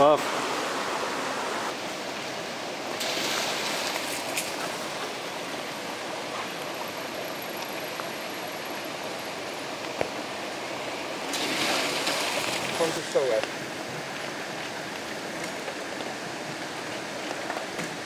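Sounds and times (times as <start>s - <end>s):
stream running over stones: 0.0s - 18.0s.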